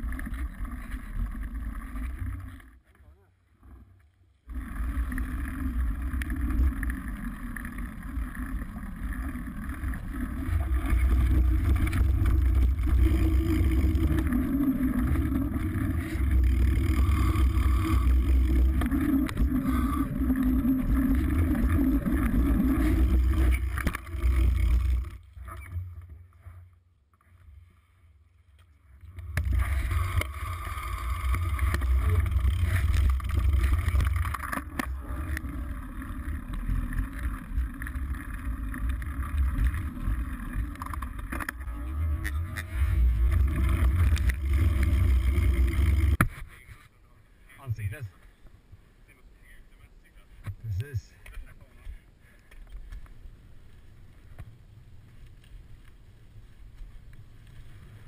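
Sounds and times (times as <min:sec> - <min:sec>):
tyres rumbling on trail: 0:00.0 - 0:26.6, 0:28.8 - 0:58.0.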